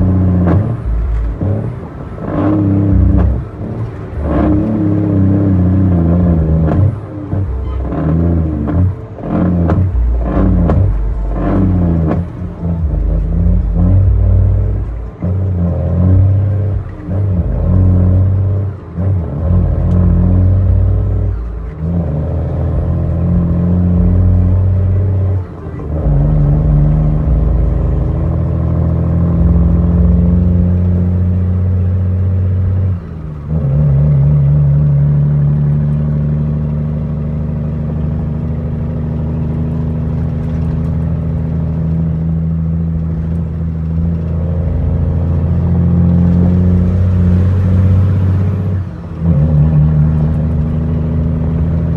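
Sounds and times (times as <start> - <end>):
truck diesel engine: 0.0 - 51.9.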